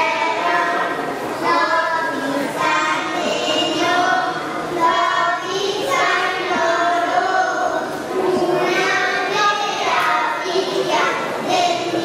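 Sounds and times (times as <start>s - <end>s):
children singing into microphones: 0.0s - 12.0s.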